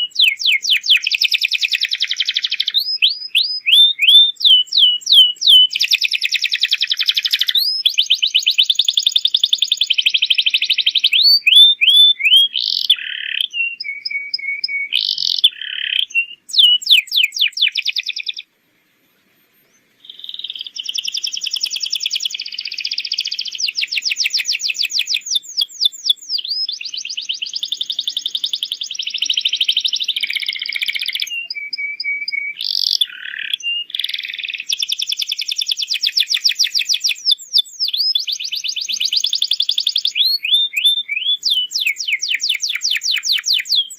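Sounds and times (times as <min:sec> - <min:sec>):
canary singing trills: 0:00.0 - 0:43.9.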